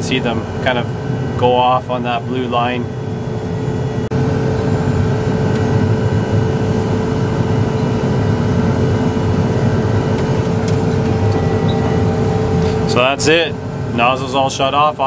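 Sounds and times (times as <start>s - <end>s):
constant hum: 0.0s - 15.0s
engine and cab drone: 0.0s - 15.0s.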